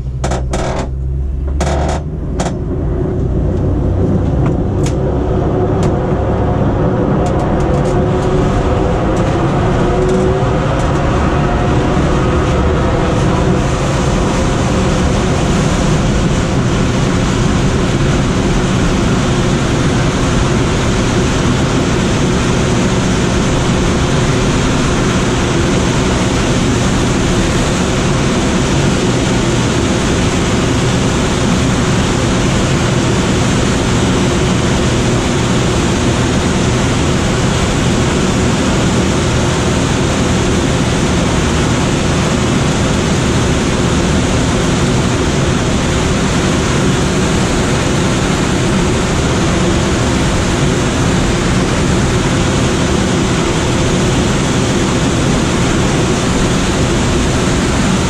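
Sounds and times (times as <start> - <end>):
low steady hum: 0.0 - 58.0
rush of air over cockpit: 0.0 - 58.0.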